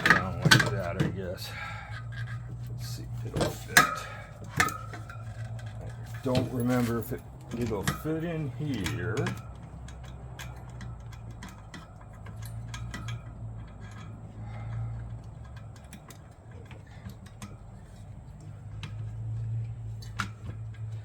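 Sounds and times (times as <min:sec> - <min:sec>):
metallic clicks and taps: 0:03.4 - 0:21.0.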